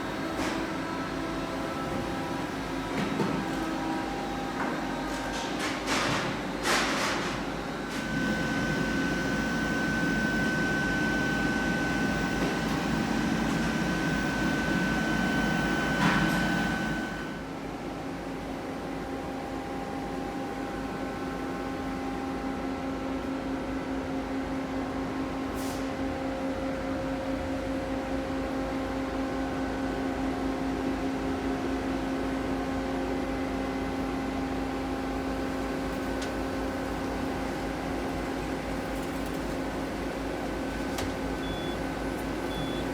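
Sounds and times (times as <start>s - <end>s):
machine hum with high whine: 0.0s - 42.9s.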